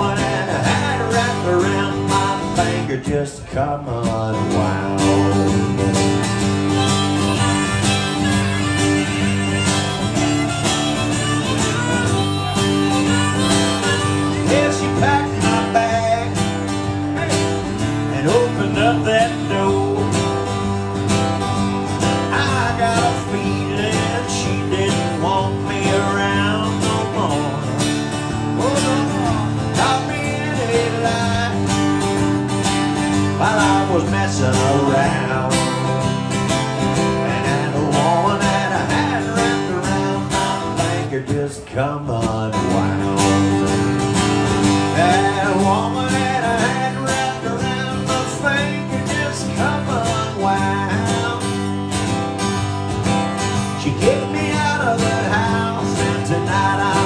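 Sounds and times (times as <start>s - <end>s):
acoustic guitar strumming: 0.0s - 57.0s
harmonica lead with bending notes: 4.5s - 41.1s, 42.7s - 57.0s.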